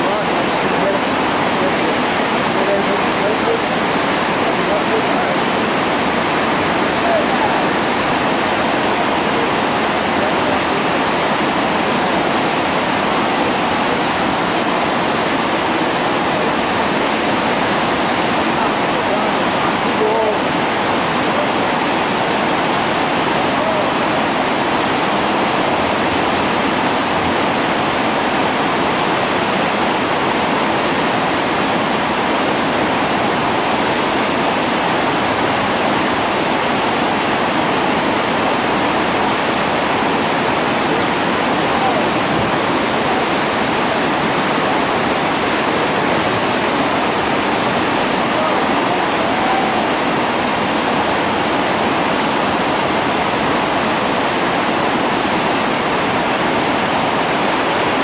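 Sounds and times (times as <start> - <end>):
whitewater rapids rushing: 0.0 - 58.0.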